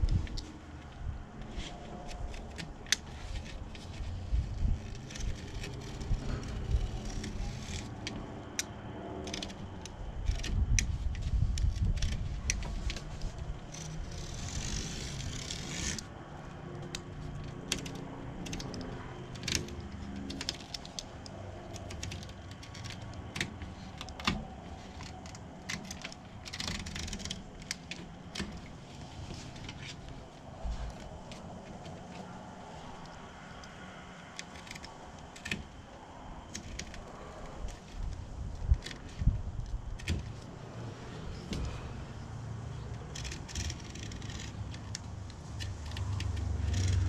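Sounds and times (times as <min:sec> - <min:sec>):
steady low rumble: 0:00.0 - 0:47.0.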